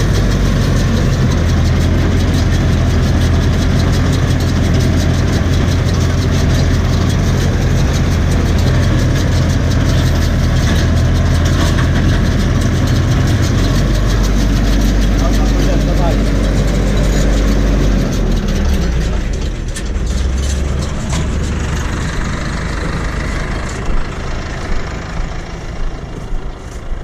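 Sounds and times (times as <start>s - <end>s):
baler machine noise: 0.0s - 27.0s
tractor diesel engine drone: 0.0s - 27.0s.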